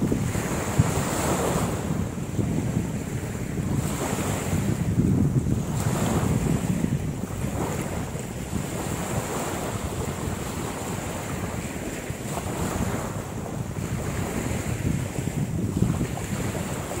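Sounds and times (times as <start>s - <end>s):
waves washing on shore: 0.0s - 17.0s
wind buffeting microphone: 0.0s - 17.0s.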